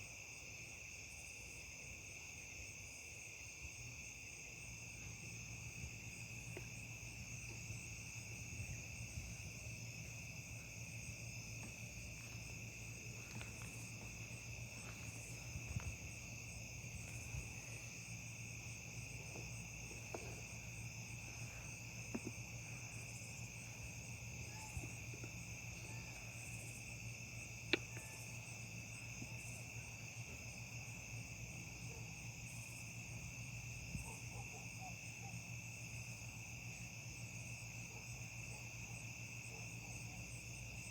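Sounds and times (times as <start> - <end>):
crickets chirping: 0.0 - 40.9
low steady hum: 0.1 - 34.4.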